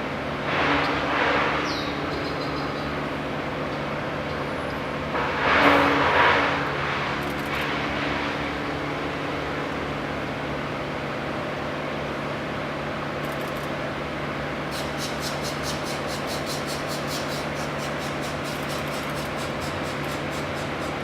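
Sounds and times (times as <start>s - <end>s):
machinery motor noise: 0.0s - 10.9s, 13.0s - 21.0s.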